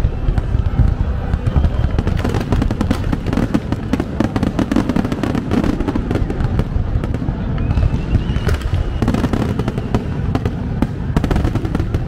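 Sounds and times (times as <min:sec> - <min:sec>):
fireworks crackling pops: 0:00.0 - 0:12.0.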